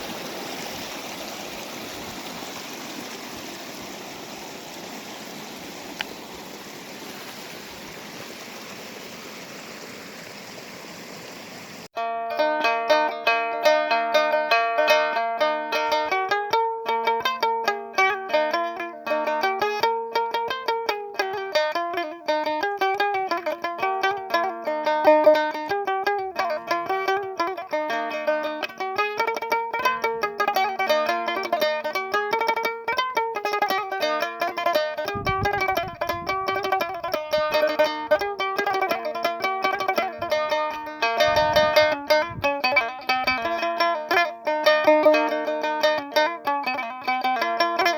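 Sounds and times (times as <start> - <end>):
plucked string instrument: 0.0 - 6.2, 11.9 - 47.9.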